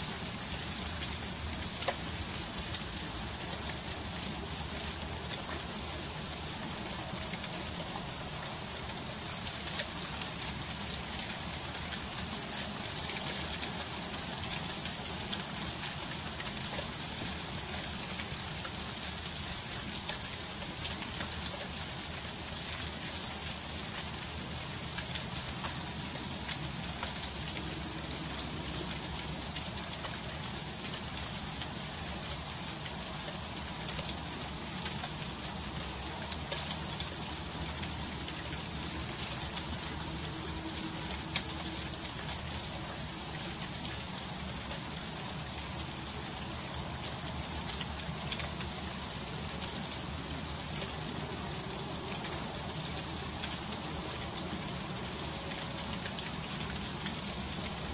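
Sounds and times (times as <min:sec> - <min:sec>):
freezing rain falling: 0:00.0 - 0:57.9.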